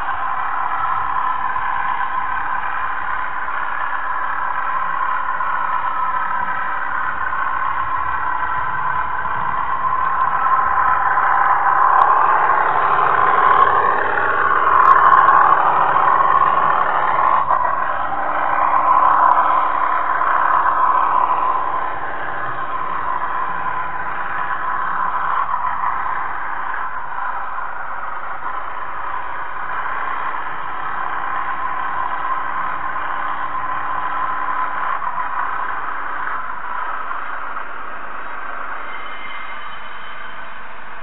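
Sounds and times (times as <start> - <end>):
model train motor whining: 0.0 - 41.0
wheels rolling on rails: 0.0 - 41.0.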